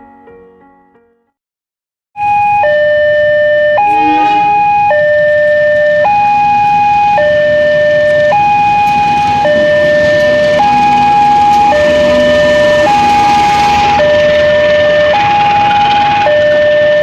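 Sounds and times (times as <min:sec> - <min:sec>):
two-tone warning siren: 0:02.2 - 0:17.0.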